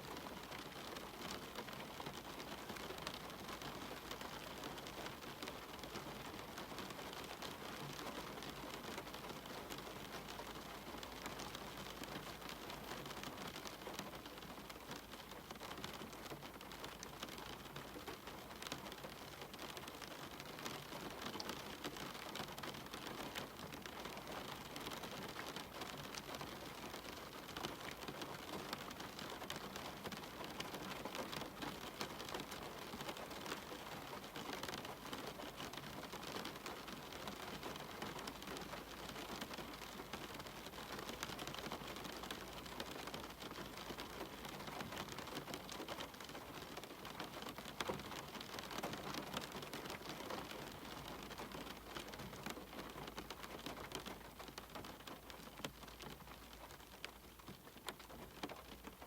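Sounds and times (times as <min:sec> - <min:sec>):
rain on a window: 0:00.0 - 0:59.0.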